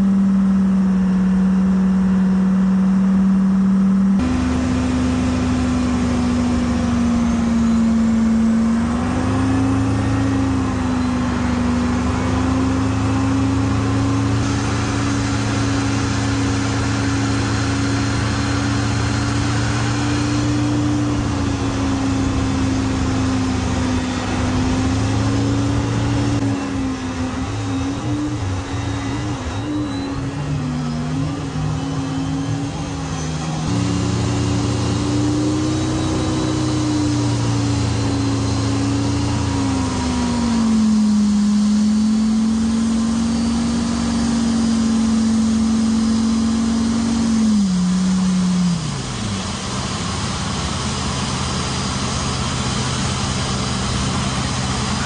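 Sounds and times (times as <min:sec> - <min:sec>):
tug engine running under load: 0:00.0 - 0:55.0.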